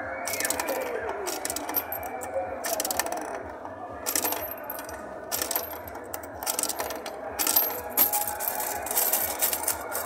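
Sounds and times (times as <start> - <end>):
coins clattering through mechanism: 0.3 - 10.0.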